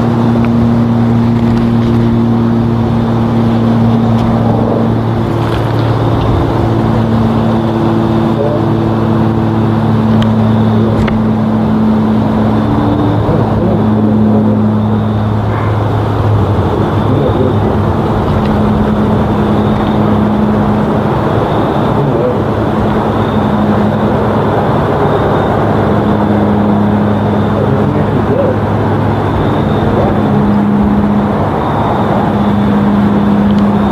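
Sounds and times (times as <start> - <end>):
propeller aircraft droning overhead: 0.0 - 33.9.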